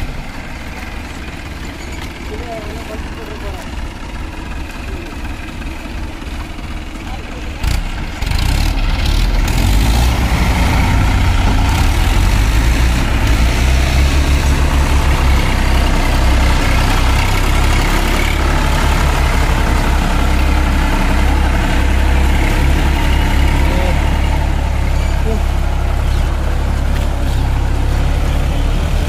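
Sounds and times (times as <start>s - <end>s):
diesel tractor engines running: 0.0s - 29.0s
tyres churning through mud: 0.0s - 29.0s.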